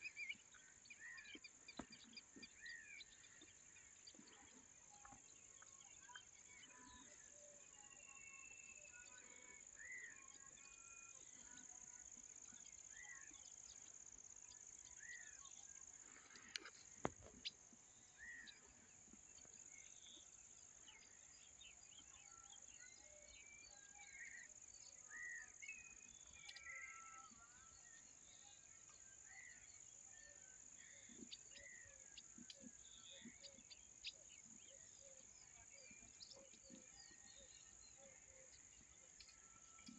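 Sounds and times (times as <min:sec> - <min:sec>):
insect chorus drone: 0:00.1 - 0:39.9.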